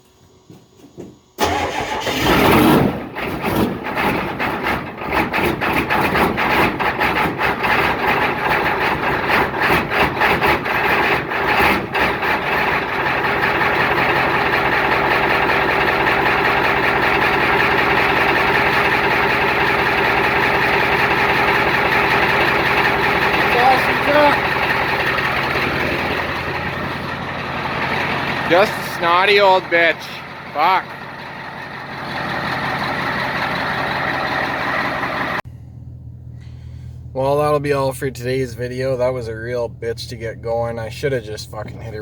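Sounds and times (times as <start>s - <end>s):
truck engine starting and idling: 1.3s - 42.0s.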